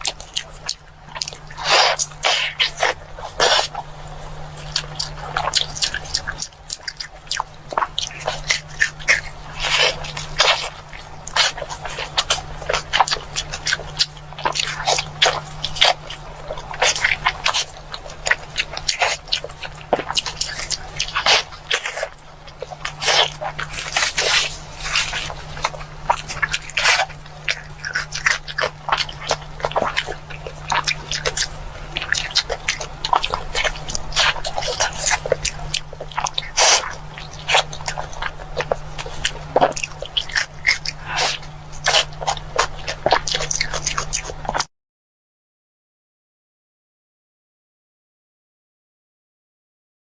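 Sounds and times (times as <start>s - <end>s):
steady low hum: 0.0s - 44.6s
crunchy chewing: 0.0s - 44.7s.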